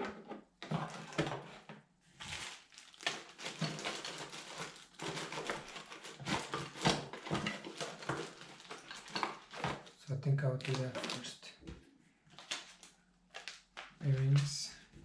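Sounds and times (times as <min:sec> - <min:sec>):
plastic packaging rustling: 0:00.7 - 0:11.5, 0:12.3 - 0:14.6.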